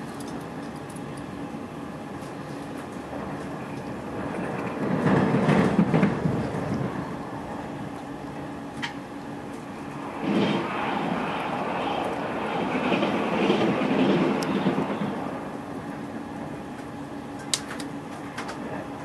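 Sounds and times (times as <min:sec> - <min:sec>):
train rumble inside carriage: 0:00.0 - 0:19.0
passing train rushing: 0:00.5 - 0:19.0.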